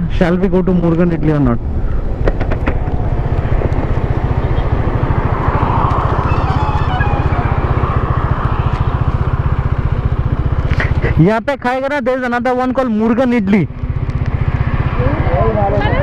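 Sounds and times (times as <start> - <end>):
motorcycle engine idling: 1.6 - 16.0.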